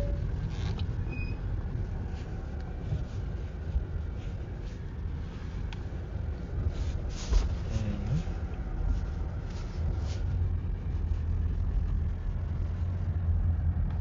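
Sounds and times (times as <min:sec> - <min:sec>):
road rumble inside car: 0:00.0 - 0:14.0.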